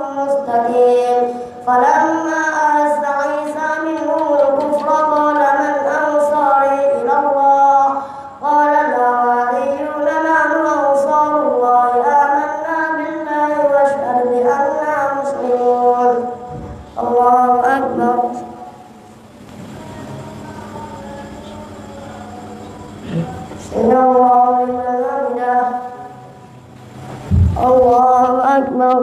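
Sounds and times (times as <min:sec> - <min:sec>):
boy chanting melodically: 0:00.0 - 0:26.4, 0:27.3 - 0:29.0.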